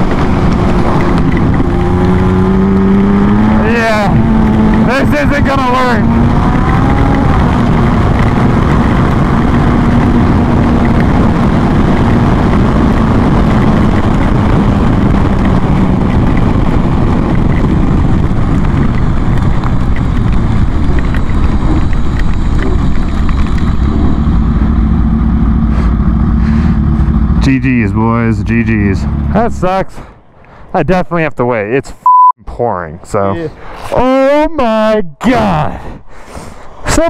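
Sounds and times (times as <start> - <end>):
motorcycle engine at speed: 0.0 - 29.9
wind rushing on microphone: 0.0 - 30.4.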